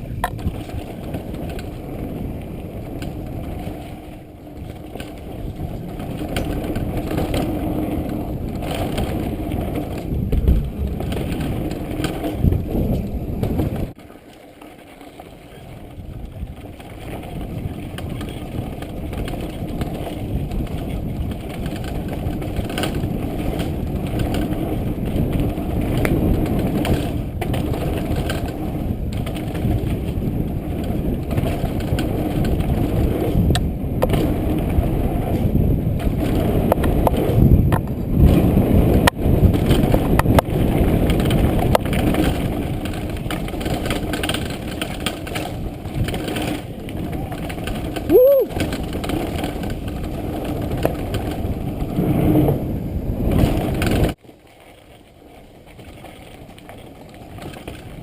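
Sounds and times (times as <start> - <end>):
bike rolling rumble: 0.0 - 58.0
bike knocking on rocks: 0.1 - 3.9, 4.6 - 14.0, 15.9 - 51.9.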